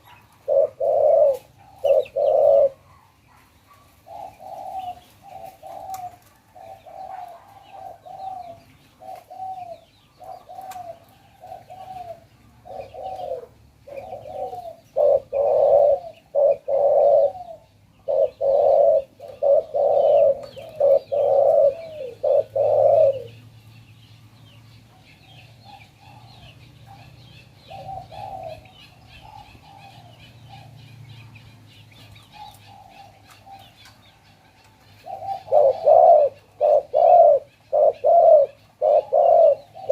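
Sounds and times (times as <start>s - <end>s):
dove cooing: 0.0s - 23.5s, 25.2s - 39.9s
small birds chirping faintly: 0.0s - 39.9s.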